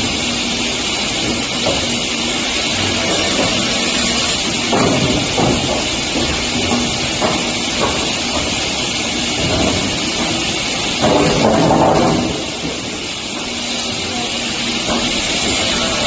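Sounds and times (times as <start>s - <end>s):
wood saw machine cutting boards: 0.0s - 16.0s.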